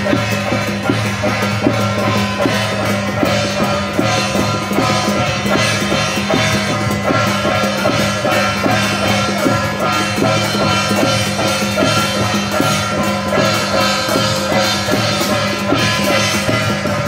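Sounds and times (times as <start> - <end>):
drums beating: 0.0 - 17.0.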